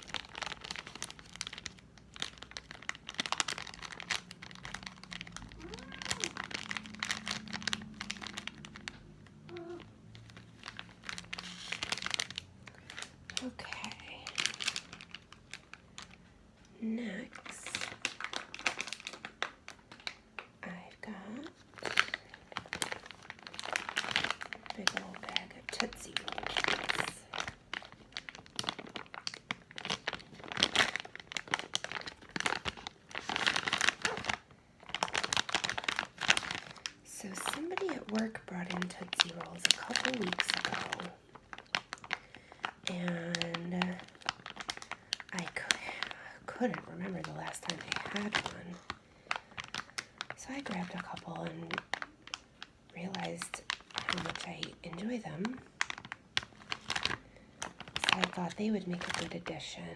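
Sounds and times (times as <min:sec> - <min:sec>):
candy packaging crinkling: 0:00.0 - 0:59.9.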